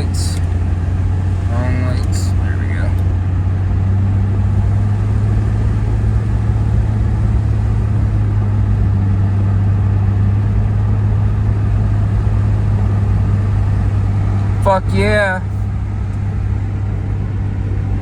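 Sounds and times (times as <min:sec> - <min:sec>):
car engine cruising: 0:00.0 - 0:18.0
road noise: 0:00.0 - 0:18.0.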